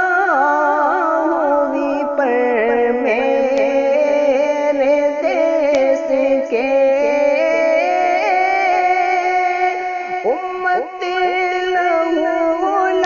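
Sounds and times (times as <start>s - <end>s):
wordless vocal melody: 0.0s - 13.0s.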